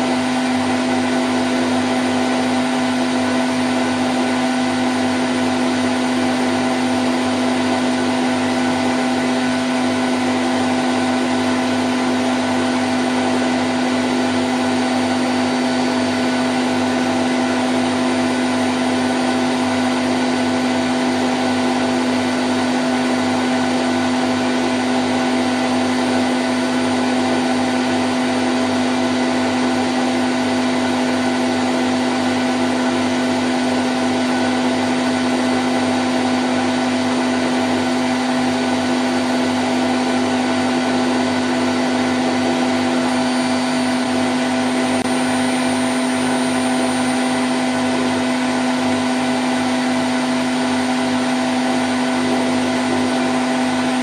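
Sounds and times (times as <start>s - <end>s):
washing machine spinning hum: 0.0s - 54.0s.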